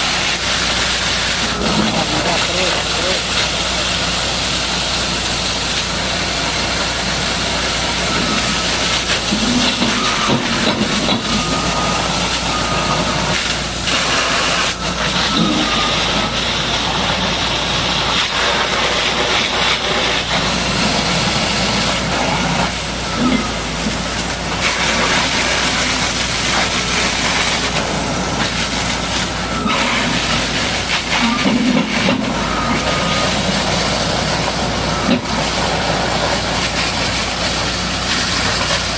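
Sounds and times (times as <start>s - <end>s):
engine hum: 0.0s - 38.9s
high-pressure water spray hissing: 0.0s - 38.9s.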